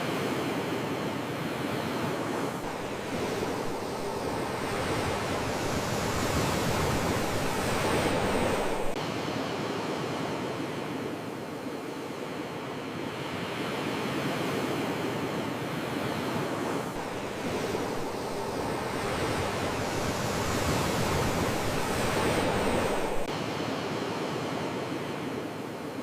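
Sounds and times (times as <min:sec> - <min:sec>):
sea waves washing in: 0:00.0 - 0:26.0.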